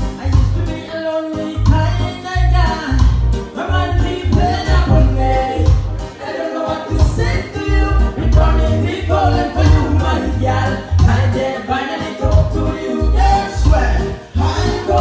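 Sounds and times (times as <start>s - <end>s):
heavy pulsing bass beat: 0.0s - 0.8s, 1.6s - 6.1s, 6.9s - 11.4s, 12.2s - 15.0s
person singing: 0.0s - 15.0s.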